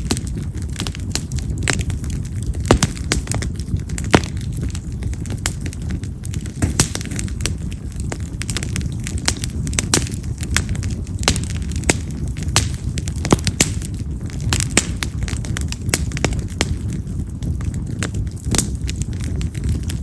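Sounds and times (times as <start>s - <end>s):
firewood crackling and popping: 0.0s - 20.0s
low rush of flame: 0.0s - 20.0s.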